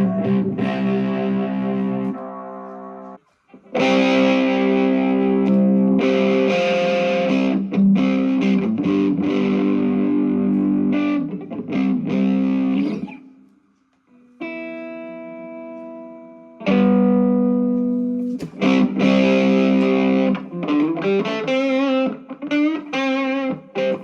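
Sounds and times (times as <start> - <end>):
distorted electric guitar riffs: 0.0 - 24.0.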